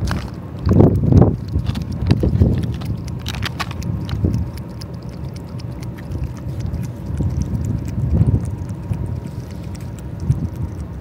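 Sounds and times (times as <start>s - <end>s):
cat chewing wet food: 0.0s - 11.0s
low wind rumble on microphone: 0.0s - 11.0s.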